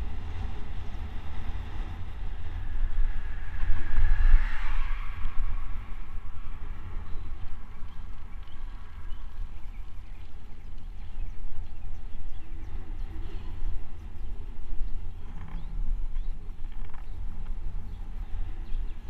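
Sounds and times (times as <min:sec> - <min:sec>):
faint road noise: 0:00.0 - 0:19.0
wind buffeting microphone: 0:00.0 - 0:19.0.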